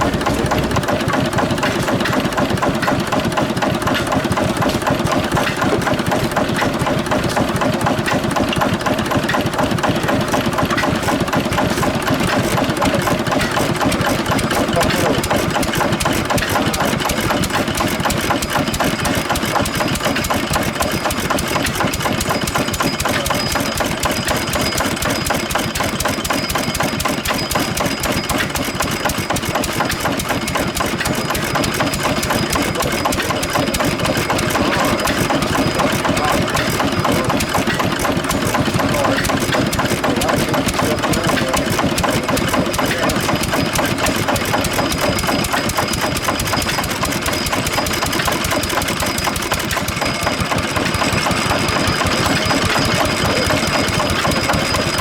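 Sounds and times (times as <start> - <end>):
stationary engine running: 0.0 - 55.0.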